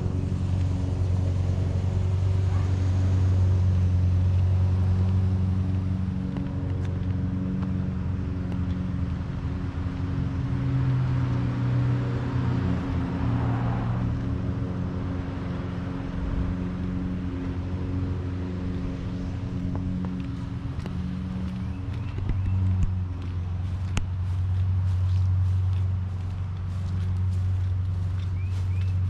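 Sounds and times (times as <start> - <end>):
small engine droning: 0.0 - 29.0.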